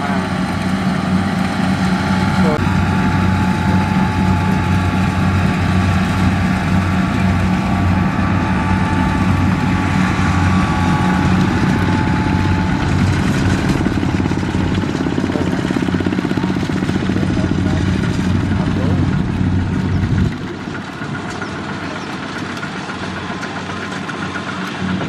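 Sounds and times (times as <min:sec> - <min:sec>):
diesel tractor engine chugging: 0:00.0 - 0:25.0.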